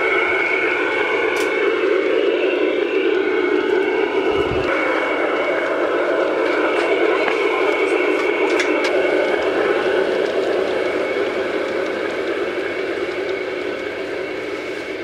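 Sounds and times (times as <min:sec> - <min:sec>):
model train wheels rumbling: 0:00.0 - 0:15.0
thin motor whine: 0:00.0 - 0:15.0.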